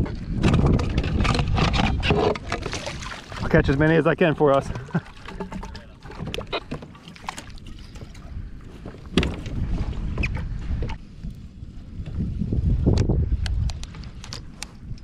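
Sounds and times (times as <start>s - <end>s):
wind on microphone: 0.0s - 6.8s, 7.4s - 15.0s
water sloshing against kayak hull: 0.0s - 12.4s.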